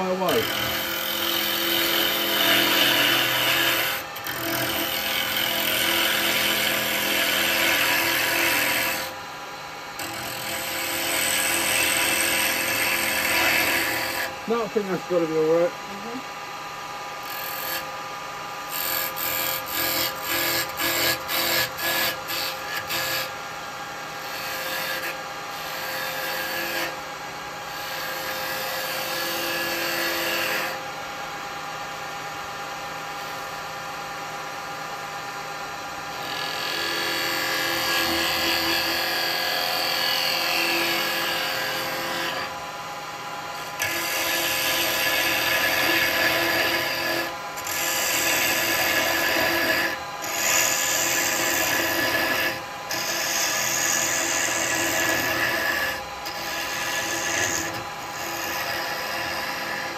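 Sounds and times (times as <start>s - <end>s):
turning tool rasping wood: 0.0s - 9.2s, 9.9s - 16.0s, 17.2s - 17.9s, 18.7s - 23.4s, 24.2s - 27.0s, 27.7s - 30.8s, 36.2s - 42.6s, 43.6s - 59.9s
wood lathe motor hum: 0.0s - 31.6s, 34.2s - 59.9s.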